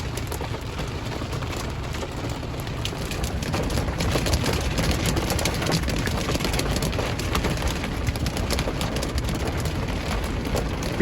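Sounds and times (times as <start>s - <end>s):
hailstones hammering on a car: 0.0s - 11.0s
heavy rain on a car: 0.0s - 11.0s.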